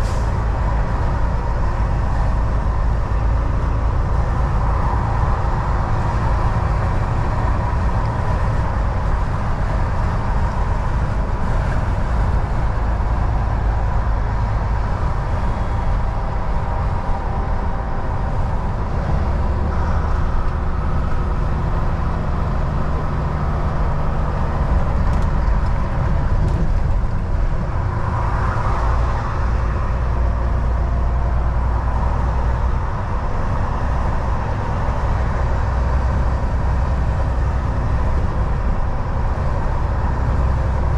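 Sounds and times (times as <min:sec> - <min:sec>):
truck engine drone: 0:00.0 - 0:40.9
tyre and road noise: 0:00.0 - 0:40.9.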